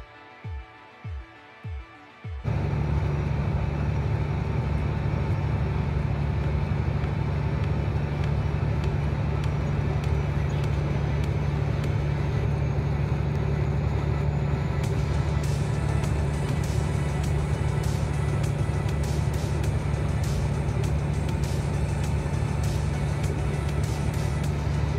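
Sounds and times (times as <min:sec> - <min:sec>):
car road noise from inside: 0:02.5 - 0:24.9.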